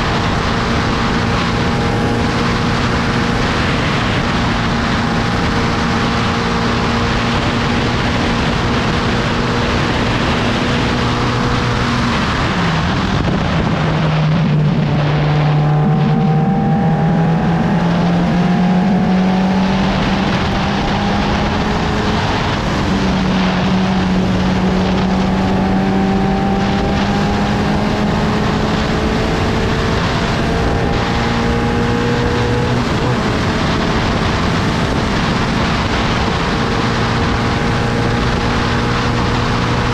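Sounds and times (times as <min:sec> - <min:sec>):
heavy rushing wind noise: 0:00.0 - 0:39.9
racing car engine at speed: 0:00.0 - 0:39.9.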